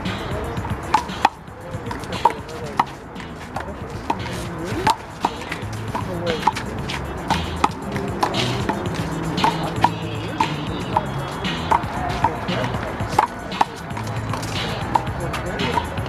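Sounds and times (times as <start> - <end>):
handball slapping hands and wall: 1.0 - 15.9.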